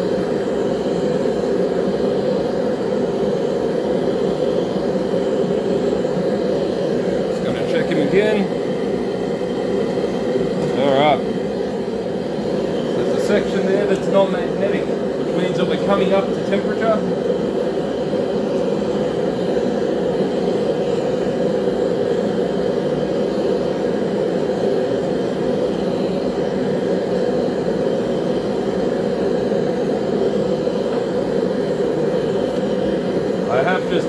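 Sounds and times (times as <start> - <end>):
gas forge burner rushing: 0.0 - 34.0.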